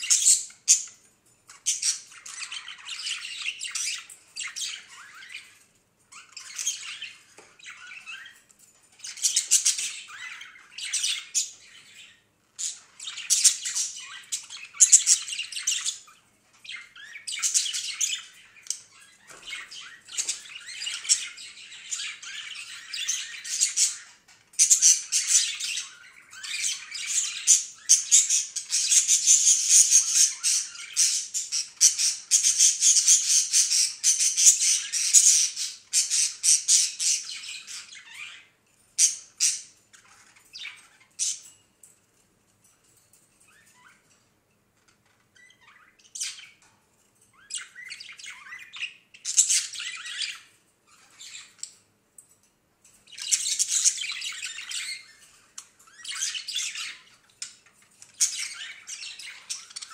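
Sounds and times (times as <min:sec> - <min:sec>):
budgerigars chattering and squawking: 0:00.0 - 0:08.4, 0:09.0 - 0:41.5, 0:47.4 - 0:51.8, 0:53.1 - 0:59.9.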